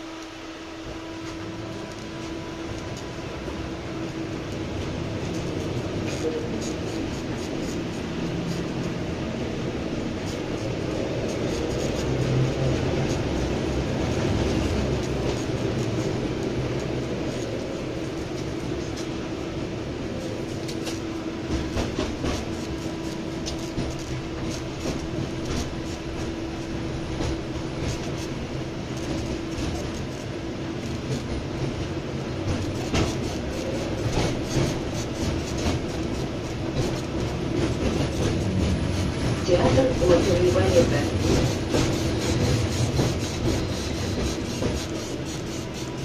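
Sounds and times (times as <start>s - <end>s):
tram rumble and hum: 0.0s - 46.0s
wheels clicking on rails: 4.0s - 46.0s.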